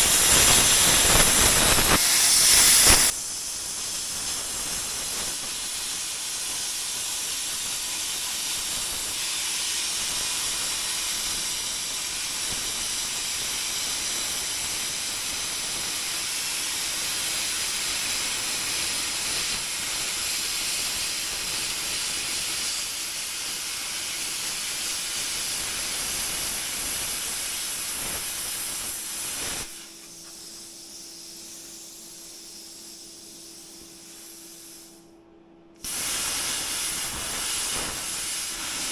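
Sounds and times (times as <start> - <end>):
cutting torch hissing: 0.0 - 35.0, 35.8 - 38.9.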